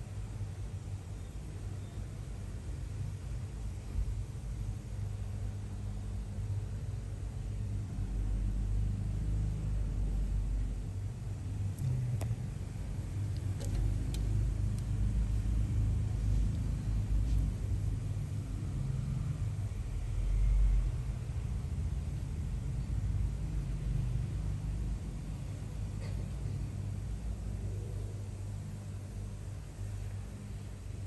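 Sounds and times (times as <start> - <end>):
steady low rumble: 3.7 - 31.0.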